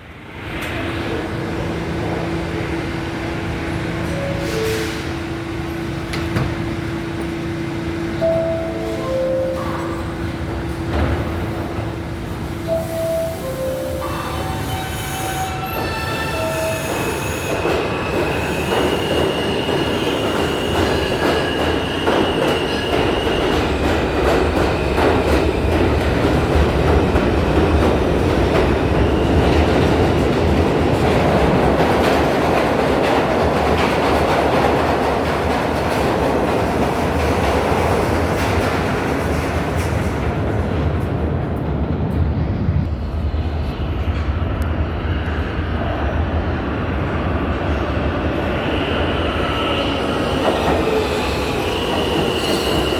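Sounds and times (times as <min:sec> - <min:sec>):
subway train rumble: 0:00.0 - 0:52.9.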